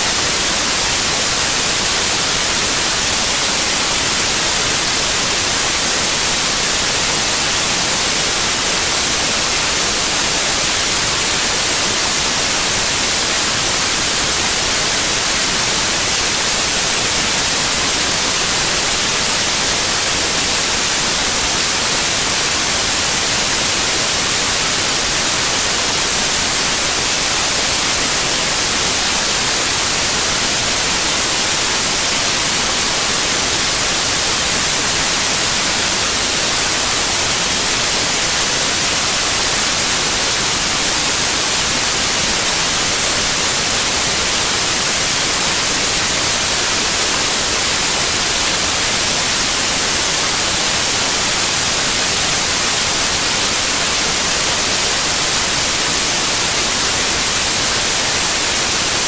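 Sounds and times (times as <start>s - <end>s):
static hiss: 0.0s - 59.0s.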